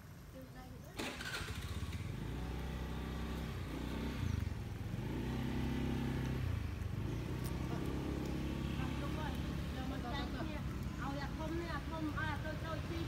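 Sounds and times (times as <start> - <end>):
vehicle engine droning: 1.0 - 13.0.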